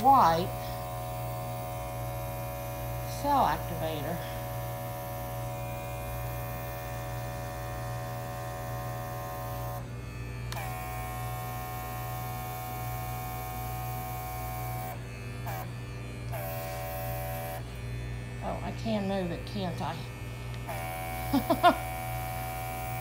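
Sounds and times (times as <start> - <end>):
compressor humming: 0.0 - 23.0.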